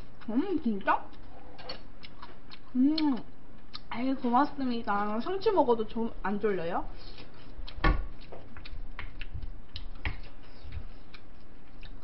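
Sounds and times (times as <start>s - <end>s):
chewing: 0.0s - 5.2s, 7.0s - 12.0s.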